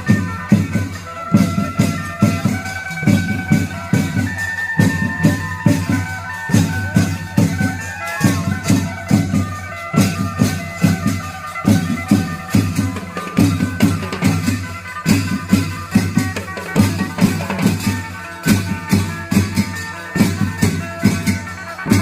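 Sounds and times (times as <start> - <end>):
cymbals: 0.0 - 22.0
long drums beating: 0.0 - 22.0.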